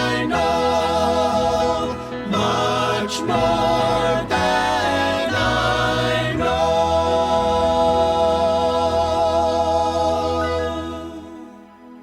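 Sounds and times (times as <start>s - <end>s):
choir-like gospel singing: 0.0s - 12.0s
musical backing: 0.0s - 12.0s.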